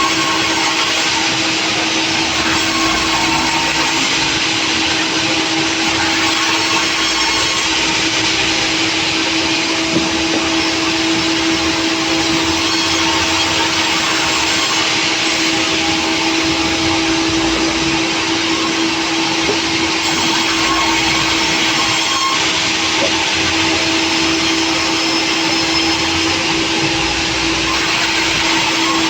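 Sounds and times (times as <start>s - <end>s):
sawmill saw whining: 0.0s - 29.0s.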